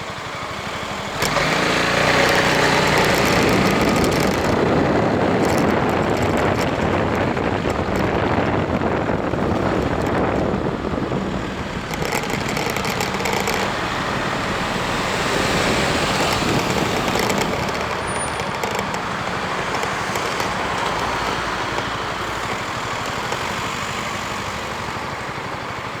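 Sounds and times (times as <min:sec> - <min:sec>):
scooter engine running: 0:00.0 - 0:26.0
wind and road noise: 0:00.0 - 0:26.0.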